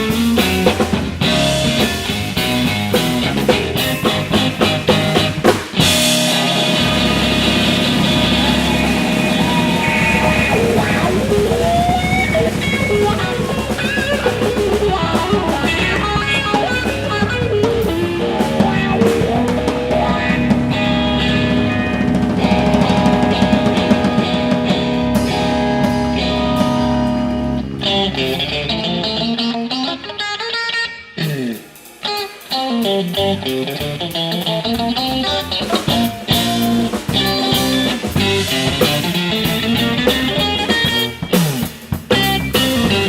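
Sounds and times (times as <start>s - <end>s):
drum kit: 0.0s - 30.2s, 31.1s - 43.0s
bass guitar: 0.0s - 43.0s
electric guitar lead: 0.0s - 43.0s.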